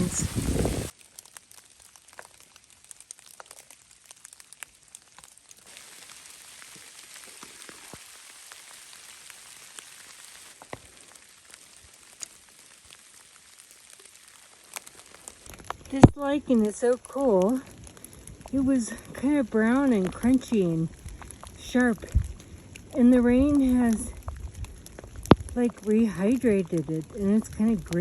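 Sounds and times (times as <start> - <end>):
heavy rain falling: 0.0 - 28.0
raindrops ticking close by: 0.0 - 28.0.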